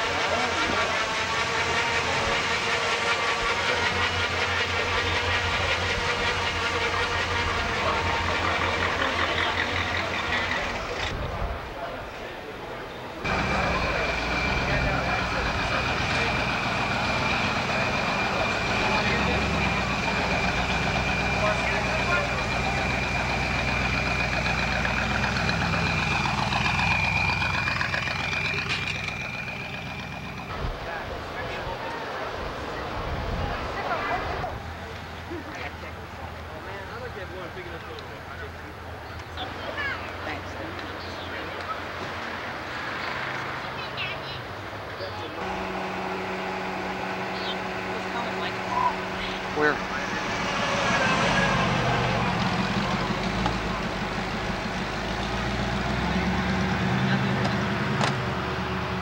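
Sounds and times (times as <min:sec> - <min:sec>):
car exhaust rumble: 0:00.0 - 0:42.4, 0:44.7 - 0:59.0.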